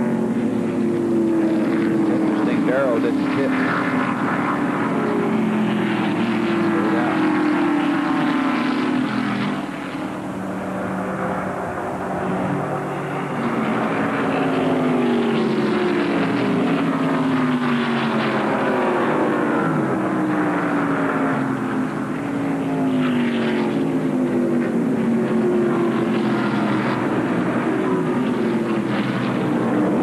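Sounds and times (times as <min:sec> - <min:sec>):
race car engines passing by: 0:00.0 - 0:30.0.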